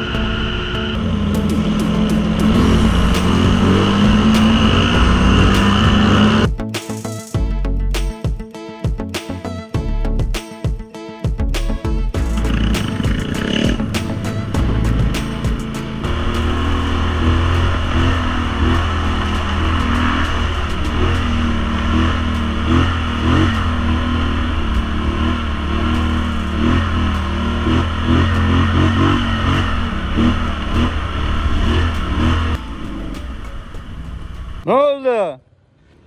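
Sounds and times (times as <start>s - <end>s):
atv engine revving: 0.0s - 6.5s, 12.2s - 34.7s.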